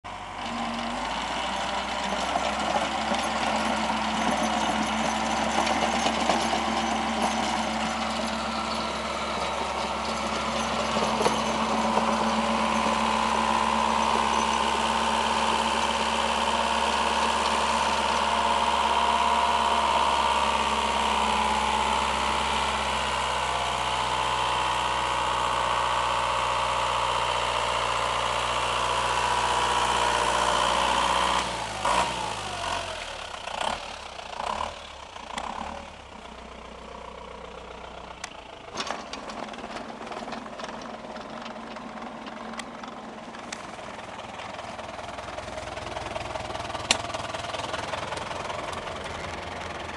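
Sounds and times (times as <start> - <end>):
tractor engine running: 0.0 - 49.9
rotary tiller churning soil: 0.2 - 34.7, 38.2 - 49.9.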